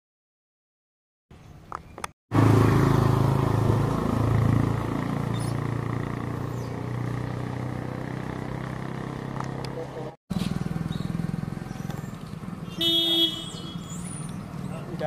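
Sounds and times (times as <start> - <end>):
engine droning: 2.3 - 15.0.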